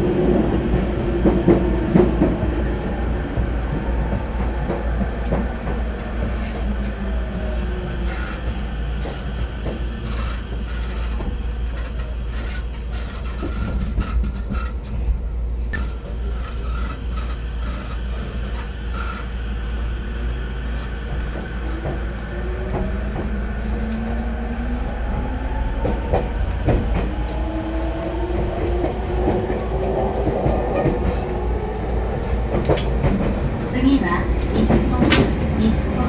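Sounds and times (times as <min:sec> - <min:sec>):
rail clicks: 0:00.0 - 0:36.0
train wheels rumbling on rail: 0:00.0 - 0:36.0.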